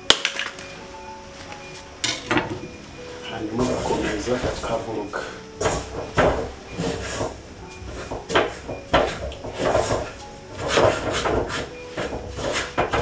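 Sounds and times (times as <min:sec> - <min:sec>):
wooden spoon scraping a metal pot: 0:02.0 - 0:13.0.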